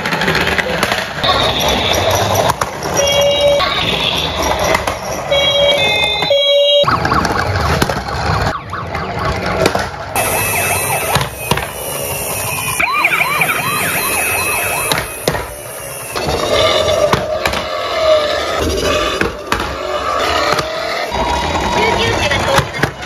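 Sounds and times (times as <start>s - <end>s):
toy electronic sirens: 1.2s - 22.5s.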